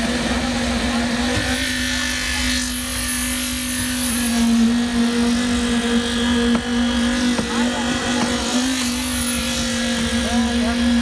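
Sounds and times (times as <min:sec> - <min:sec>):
concrete vibrator humming: 0:00.0 - 0:11.0.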